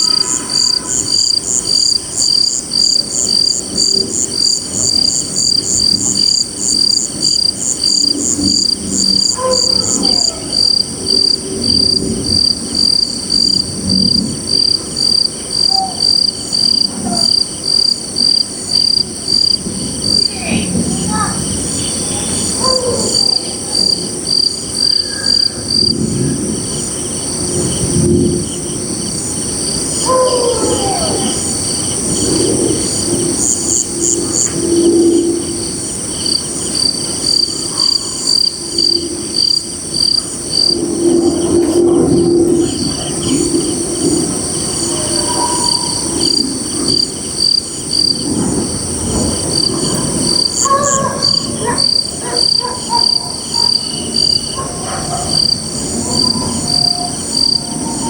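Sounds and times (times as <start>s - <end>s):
crickets chirping: 0.0s - 58.0s
lower insect calls: 0.0s - 58.0s
steady high insect trill: 0.0s - 58.0s.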